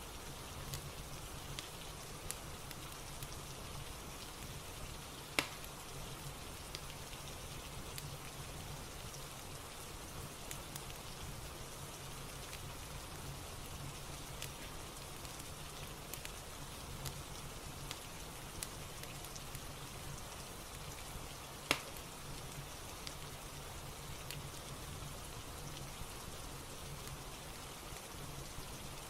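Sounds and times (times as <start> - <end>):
steady rain hiss: 0.0 - 29.0
fireplace crackling: 0.1 - 29.0.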